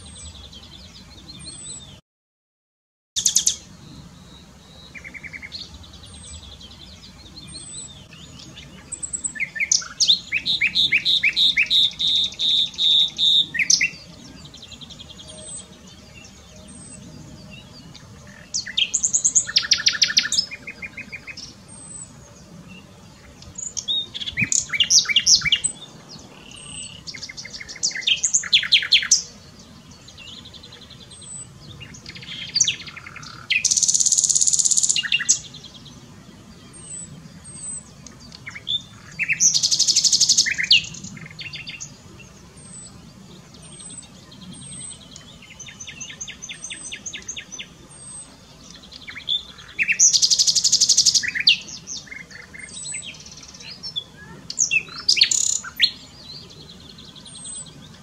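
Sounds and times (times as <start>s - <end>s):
nightingale singing: 0.0s - 2.0s, 3.2s - 58.0s.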